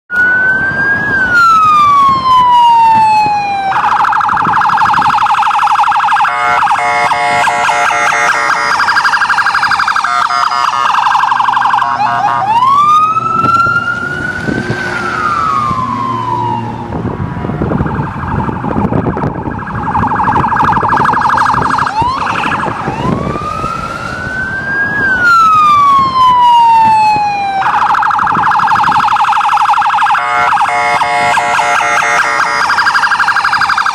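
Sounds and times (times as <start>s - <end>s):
electronic police siren: 0.1s - 33.9s.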